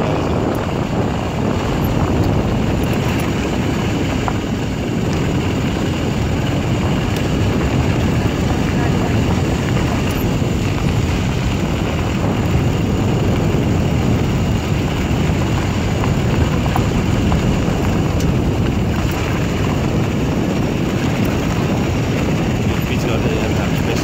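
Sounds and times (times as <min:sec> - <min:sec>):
wind and road noise in vehicle: 0:00.0 - 0:24.0.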